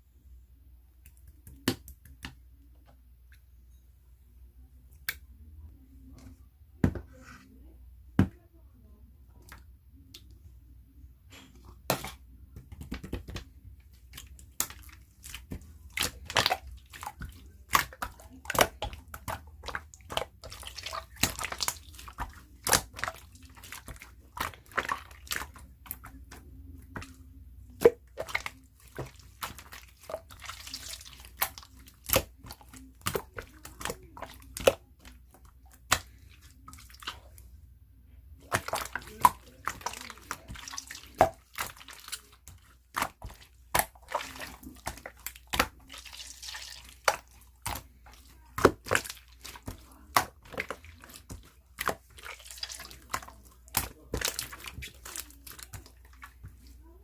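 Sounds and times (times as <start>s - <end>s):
slime squishing with wet clicks: 0.9s - 3.5s, 4.9s - 5.4s, 11.3s - 37.6s, 38.3s - 57.0s.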